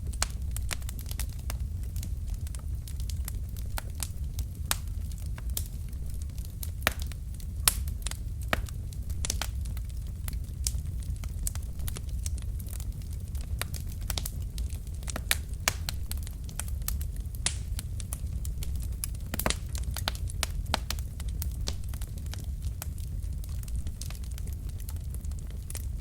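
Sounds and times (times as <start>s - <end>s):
burning logs crackling and popping: 0.0s - 26.0s
fire flames rumbling: 0.0s - 26.0s.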